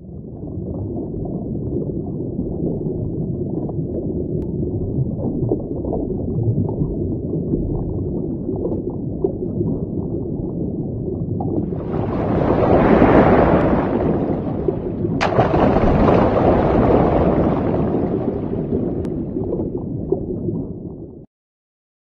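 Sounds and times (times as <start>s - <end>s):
muffled underwater sloshing: 0.0s - 21.2s.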